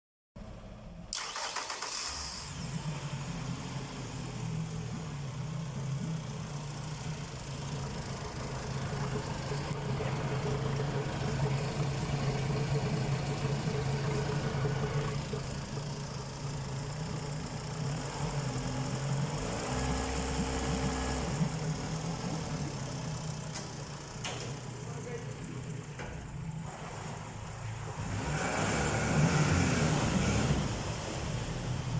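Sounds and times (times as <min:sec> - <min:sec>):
outboard motor idling: 0:01.1 - 0:28.2.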